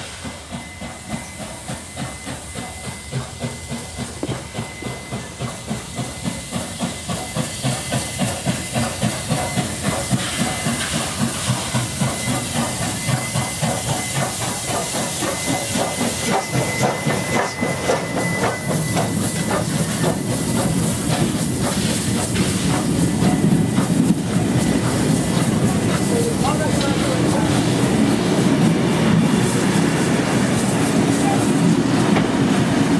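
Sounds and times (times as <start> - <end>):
hissing steam: 0.0 - 32.9
locomotive exhaust beats: 0.1 - 32.9.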